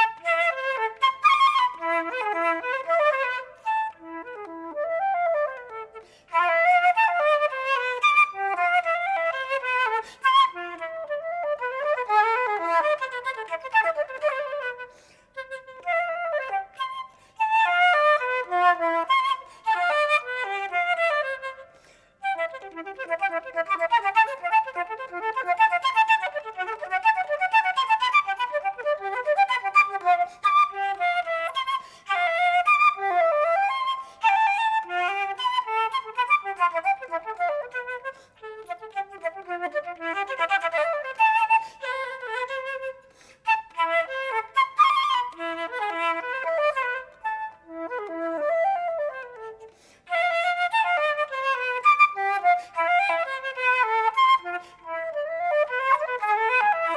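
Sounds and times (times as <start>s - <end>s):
flute playing fast passages: 0.0s - 56.9s.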